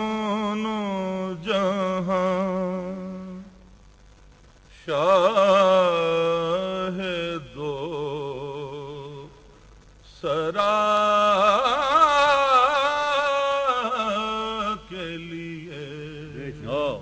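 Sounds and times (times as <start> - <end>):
man singing unaccompanied: 0.0 - 3.8, 4.7 - 17.0.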